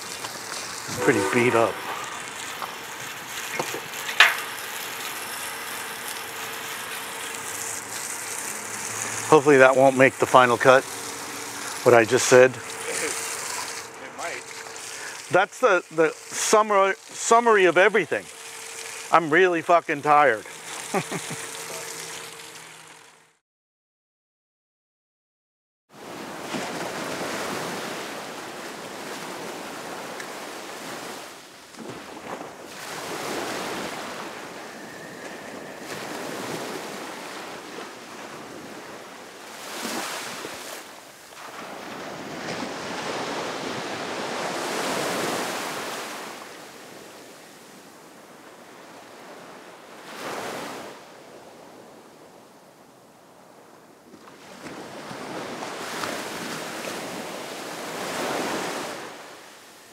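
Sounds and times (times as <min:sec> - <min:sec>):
ocean waves washing in: 0:00.0 - 0:23.2, 0:26.0 - 0:53.6, 0:54.3 - 0:59.9.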